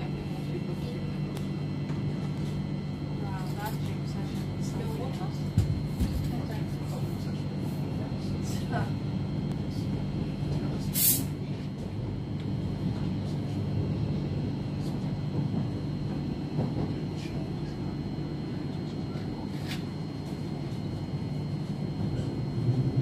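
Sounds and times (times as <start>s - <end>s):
train interior hum: 0.0s - 23.0s.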